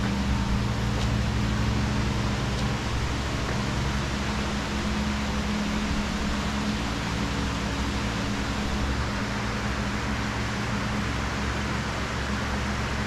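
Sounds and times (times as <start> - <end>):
ventilation fans whooshing: 0.0 - 13.0.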